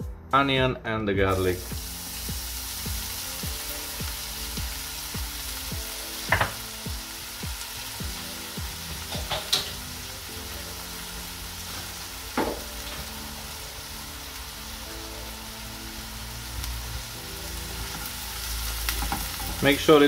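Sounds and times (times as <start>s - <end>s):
onions and garlic sizzling in fat: 1.3s - 20.0s.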